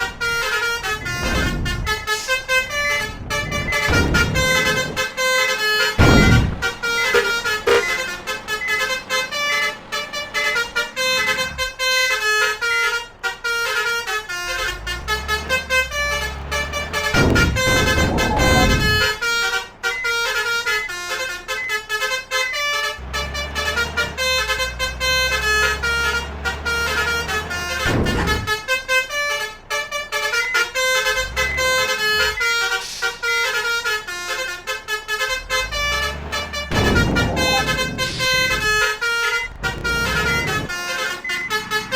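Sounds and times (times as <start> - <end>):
heavy engine rumbling: 0.0 - 41.9
musical vehicle horn tune: 0.0 - 41.9.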